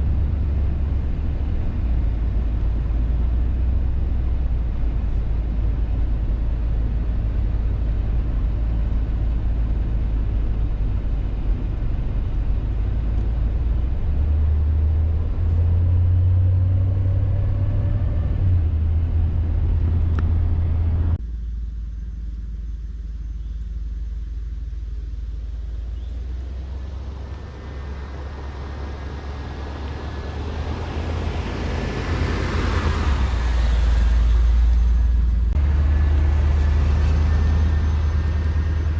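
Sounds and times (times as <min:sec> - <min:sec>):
van engine and road rumble: 0:00.0 - 0:38.9.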